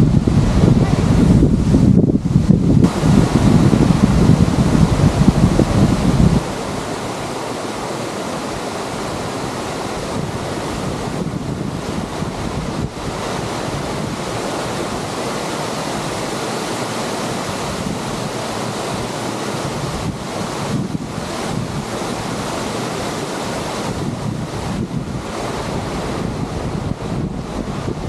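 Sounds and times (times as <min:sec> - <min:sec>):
sea surf rushing: 0:00.0 - 0:28.0
wind on microphone: 0:00.0 - 0:28.0.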